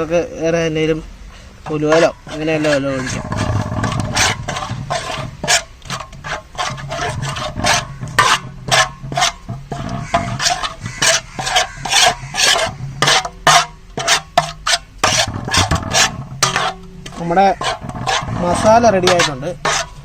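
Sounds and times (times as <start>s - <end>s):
spoon scraping paste in bowl: 1.7s - 20.0s.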